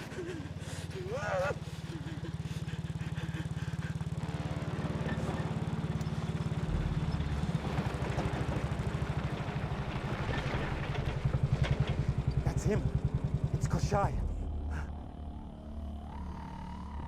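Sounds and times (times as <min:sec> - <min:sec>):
truck engine running: 0:00.0 - 0:16.3.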